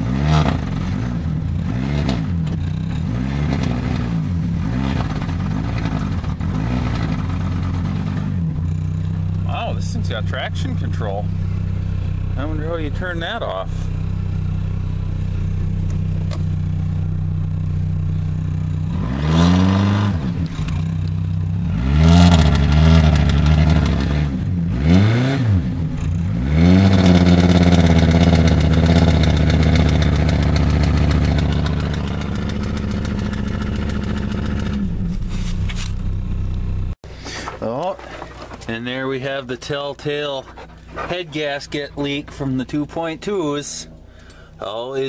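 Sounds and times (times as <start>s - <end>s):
car engine idling and revving: 0.0s - 45.0s.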